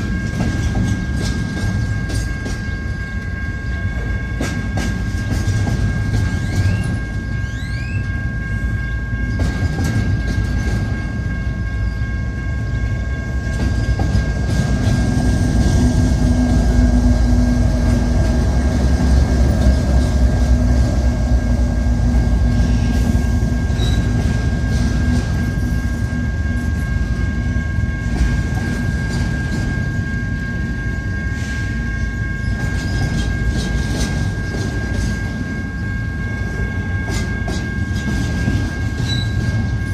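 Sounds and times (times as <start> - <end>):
wheels clacking over rail joints: 0.0 - 8.1, 8.8 - 11.6, 13.4 - 30.5, 32.4 - 35.6, 36.5 - 39.9
freight train rumbling past: 0.0 - 39.9.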